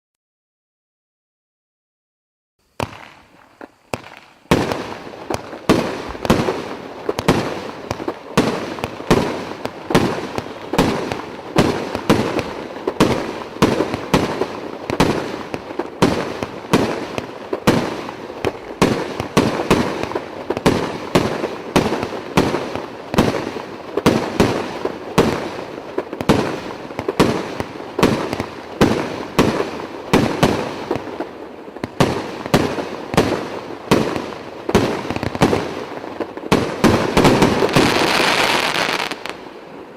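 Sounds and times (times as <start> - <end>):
faint fuse hiss: 2.6 - 39.9
fireworks bangs with crackling: 2.7 - 39.9.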